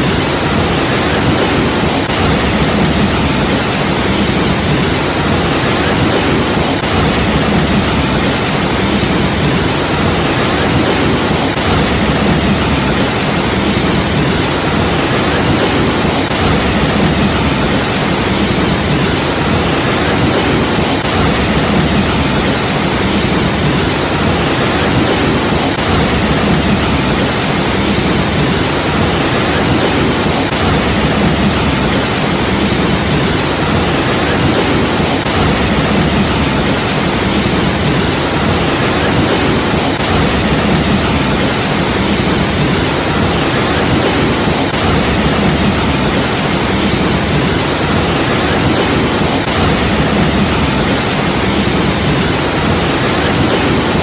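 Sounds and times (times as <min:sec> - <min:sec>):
waterfall pouring and splashing: 0:00.0 - 0:54.0.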